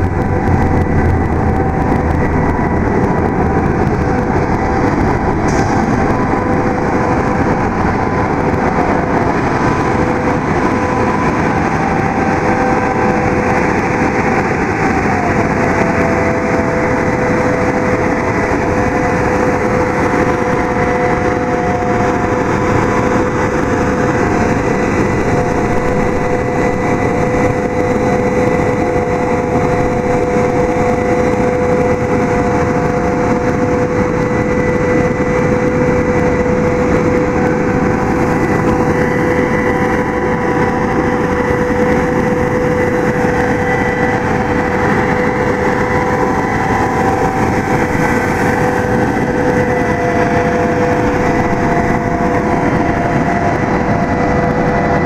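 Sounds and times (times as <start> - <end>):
steady whine: 0.0 - 55.0
truck engine running: 0.0 - 55.0.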